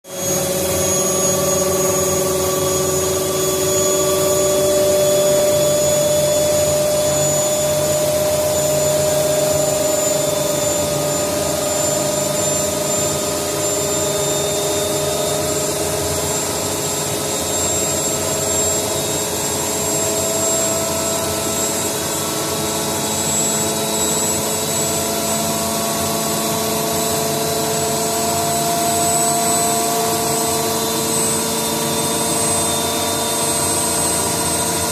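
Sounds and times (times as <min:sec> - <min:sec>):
washing machine motor whining: 0:00.1 - 0:34.9.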